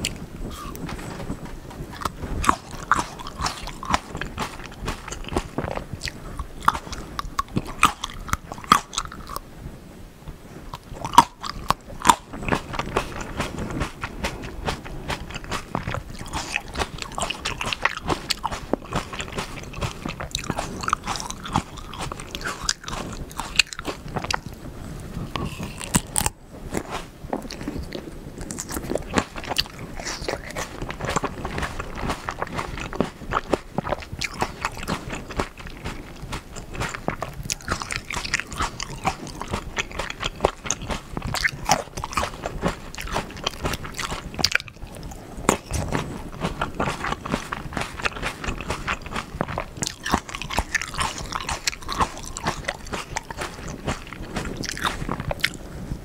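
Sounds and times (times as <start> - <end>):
biting and chewing grapes: 0.0 - 9.5, 10.3 - 56.0.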